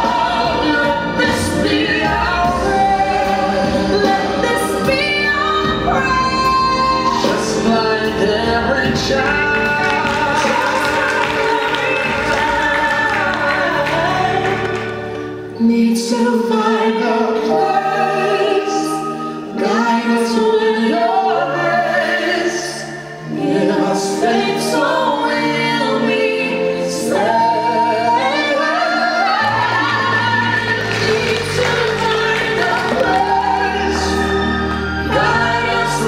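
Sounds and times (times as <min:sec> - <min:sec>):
instrumental backing with bass: 0:00.0 - 0:36.0
voices singing gospel: 0:00.0 - 0:36.0.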